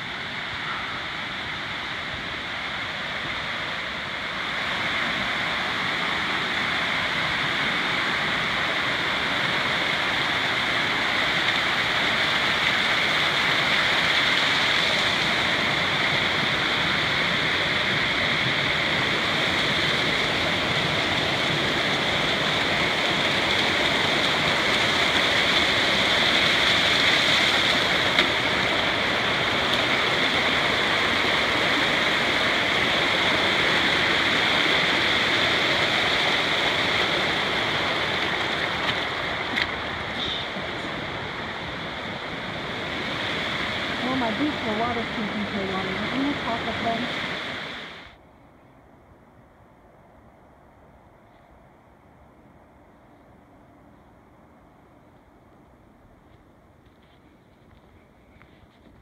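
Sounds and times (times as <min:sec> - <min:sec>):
creek rushing over rocks: 0:00.0 - 0:48.2.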